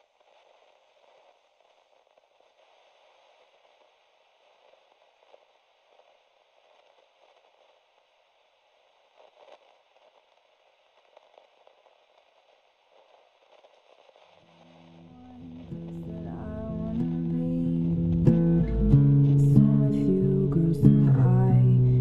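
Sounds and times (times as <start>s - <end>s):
faint static hiss: 0.0s - 22.0s
soft crackles: 0.0s - 22.0s.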